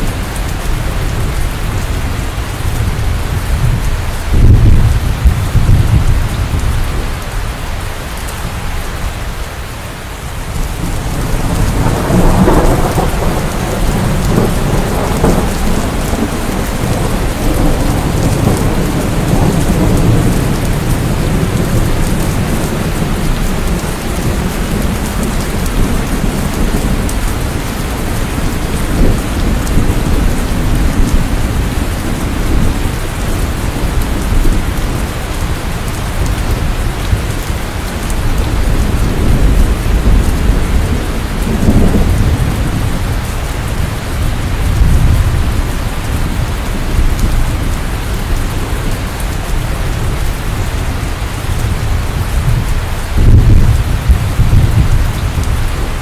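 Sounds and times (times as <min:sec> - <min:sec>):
rolling thunder: 0:00.0 - 0:07.4, 0:10.4 - 0:56.0
heavy rain: 0:00.0 - 0:56.0.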